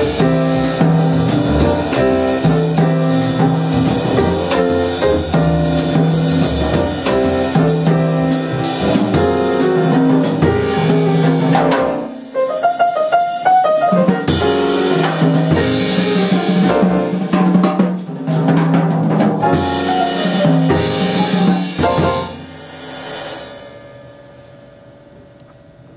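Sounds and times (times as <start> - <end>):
jazz piano trio playing: 0.0 - 23.6.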